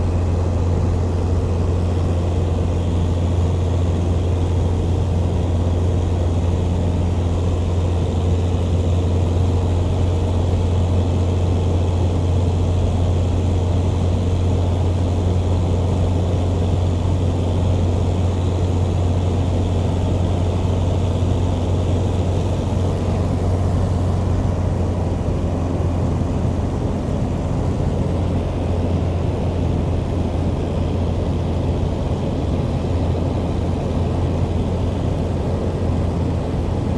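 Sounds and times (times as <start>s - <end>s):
propeller plane engine droning: 0.0s - 36.9s.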